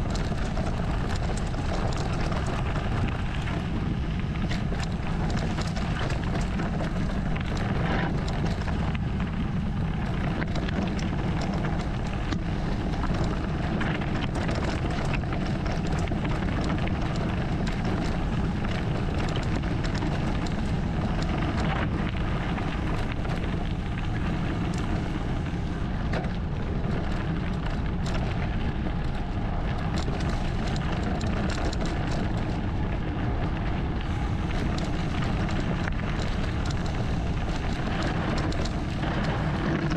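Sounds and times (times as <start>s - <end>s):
bike clicks and rattles: 0.0s - 39.9s
wind on microphone: 0.0s - 39.9s.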